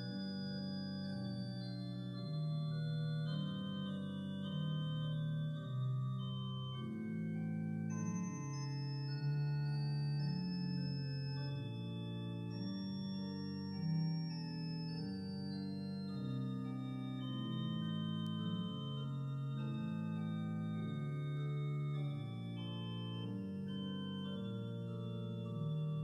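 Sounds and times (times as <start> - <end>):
organ playing slow chords: 0.0 - 26.0.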